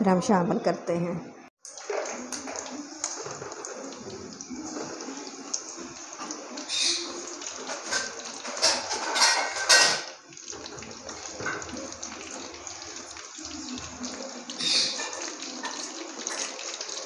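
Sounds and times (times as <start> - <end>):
vegetables deep-frying in oil: 1.6 - 17.0.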